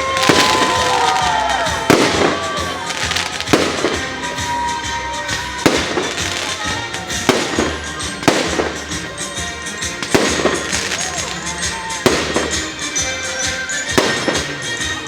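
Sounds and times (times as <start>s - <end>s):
fireworks bursting in sharp bangs: 0.0s - 15.0s
music playing: 0.0s - 15.0s.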